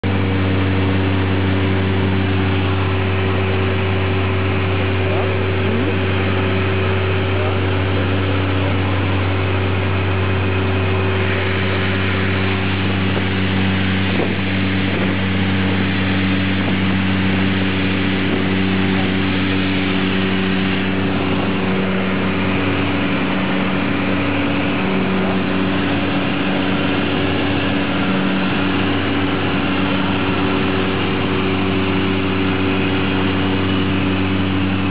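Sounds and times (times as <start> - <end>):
low humming tones: 0.0 - 34.9
turboprop engines droning: 0.0 - 34.9.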